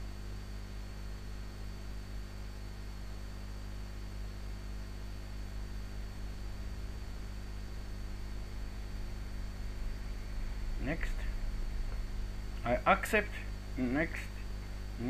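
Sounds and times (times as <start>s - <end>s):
faint high-pitched whine: 0.0s - 15.0s
mains hum and hiss: 0.0s - 15.0s.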